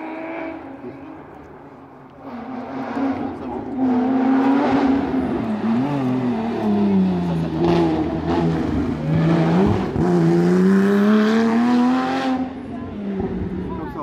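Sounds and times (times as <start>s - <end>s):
rally car engine: 0.0s - 14.0s.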